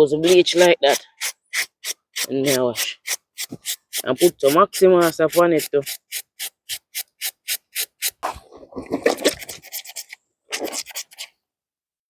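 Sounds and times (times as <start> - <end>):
brush scrubbing wet laundry: 0.0 - 11.3.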